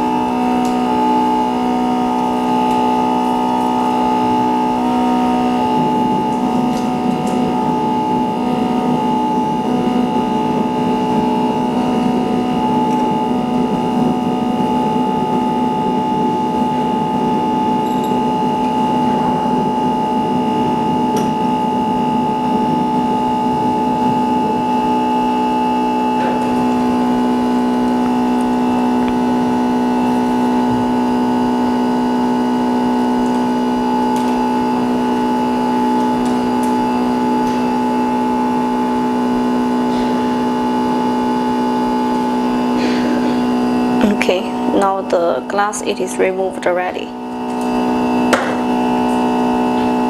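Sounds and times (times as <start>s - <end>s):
electric machine drone: 0.0s - 50.0s.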